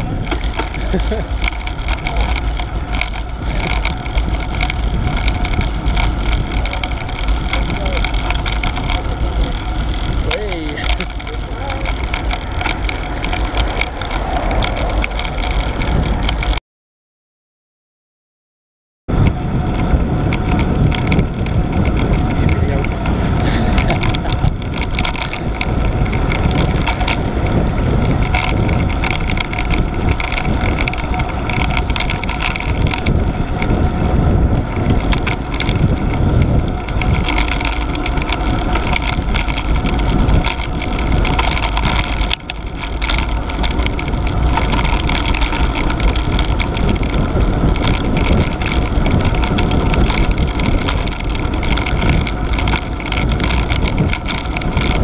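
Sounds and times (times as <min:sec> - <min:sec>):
tyre noise on tarmac: 0:00.0 - 0:16.6, 0:19.1 - 0:55.0
wind buffeting microphone: 0:00.0 - 0:16.6, 0:19.1 - 0:55.0.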